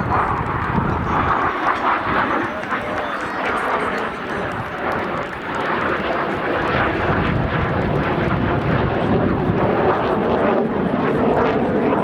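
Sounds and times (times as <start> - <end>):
jet engine roar in flight: 0.0 - 12.0.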